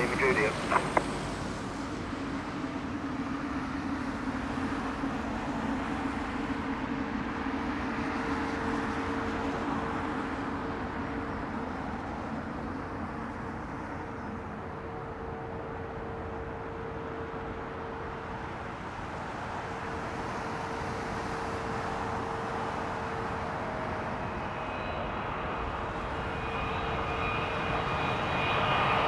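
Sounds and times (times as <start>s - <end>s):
jet airliner engines running: 0.0s - 29.0s.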